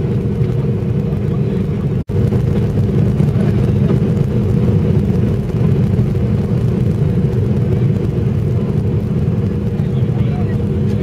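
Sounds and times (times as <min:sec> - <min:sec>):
airliner engine and airflow drone: 0:00.0 - 0:11.0
low hum: 0:00.0 - 0:11.0.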